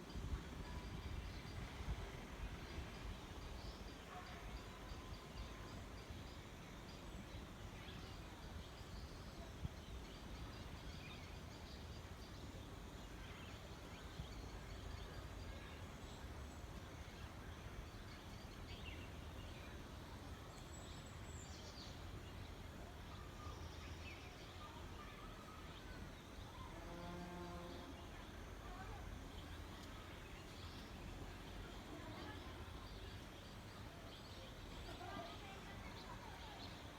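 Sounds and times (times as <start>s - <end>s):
low rumble and hiss: 0.0s - 36.9s.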